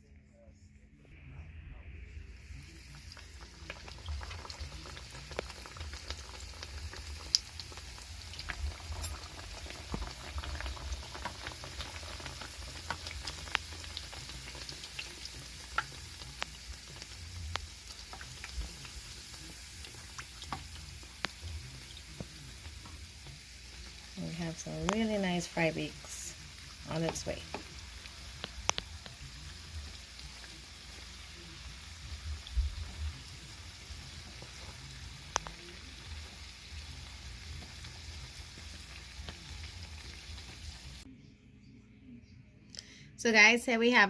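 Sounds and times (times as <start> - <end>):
dough sizzling in hot oil: 2.3 - 41.1.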